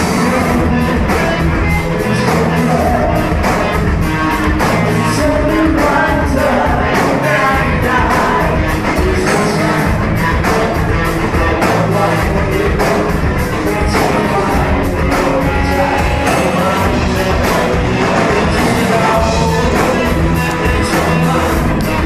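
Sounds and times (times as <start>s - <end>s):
live rock band: 0.0s - 22.0s
person singing: 0.0s - 22.0s.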